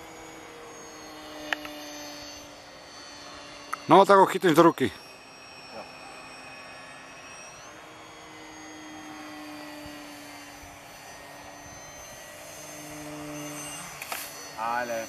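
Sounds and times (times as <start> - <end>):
model jet motor whine: 0.0 - 15.0.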